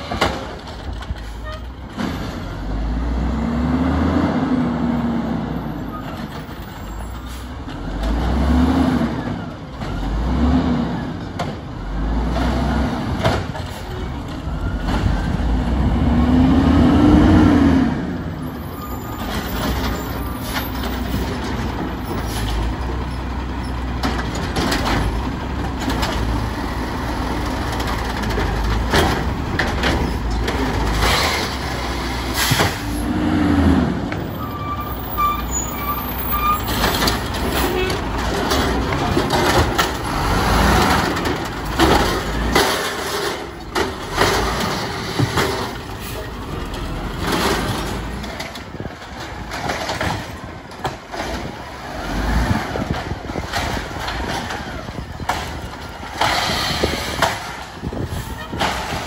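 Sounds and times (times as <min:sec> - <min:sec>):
knocks and clanks of arm and carts: 0:00.0 - 0:02.4, 0:11.2 - 0:15.9, 0:18.7 - 0:59.0
garbage truck diesel engine revving: 0:02.3 - 0:05.7, 0:07.3 - 0:59.0.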